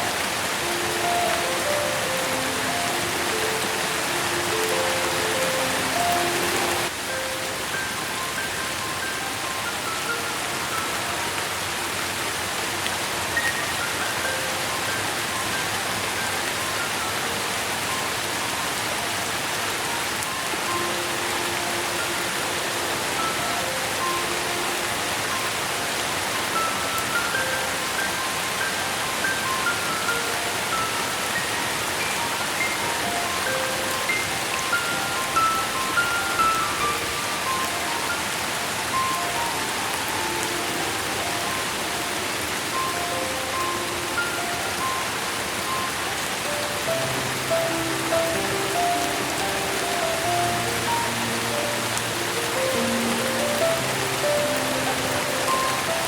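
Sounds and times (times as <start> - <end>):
slow melody of soft notes: 0.0 - 56.0
steady rain falling: 0.0 - 56.0.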